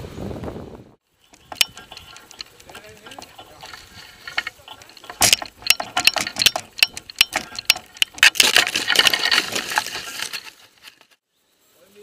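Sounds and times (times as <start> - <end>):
rapid clatter of clicks and knocks: 1.2 - 11.2.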